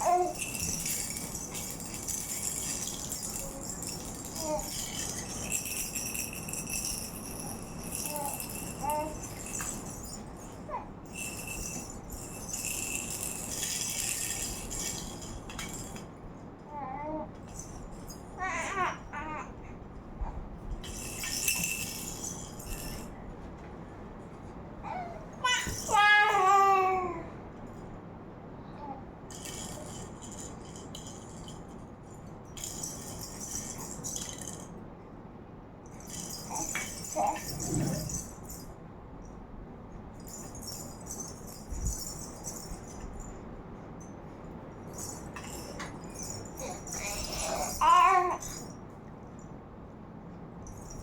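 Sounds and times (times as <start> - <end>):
baby rattle shaken: 0.0 - 23.6, 24.9 - 27.8, 29.3 - 34.8, 35.8 - 38.8, 40.0 - 49.0, 50.6 - 51.0.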